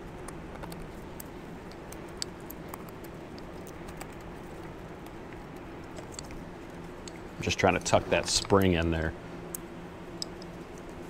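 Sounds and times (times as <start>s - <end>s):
steady background hum: 0.0s - 11.0s
small metal clicks and ticks: 0.2s - 8.9s, 10.2s - 11.0s.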